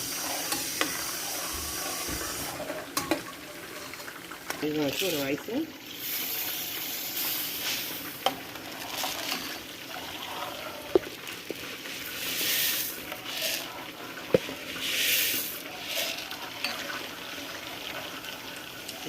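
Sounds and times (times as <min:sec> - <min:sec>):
pot bubbling and sizzling: 0:00.0 - 0:19.0.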